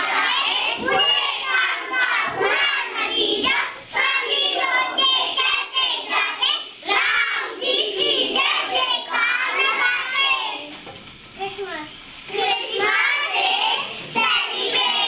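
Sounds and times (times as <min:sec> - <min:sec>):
young children singing: 0:00.0 - 0:10.8, 0:12.3 - 0:15.0.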